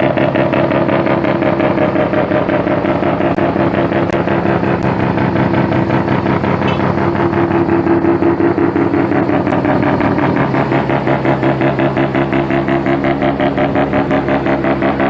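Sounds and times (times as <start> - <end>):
rotary engine running: 0.0 - 15.0.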